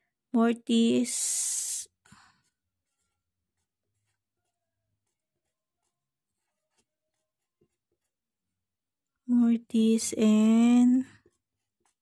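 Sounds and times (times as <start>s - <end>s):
pencil scratching on paper: 1.0s - 12.0s.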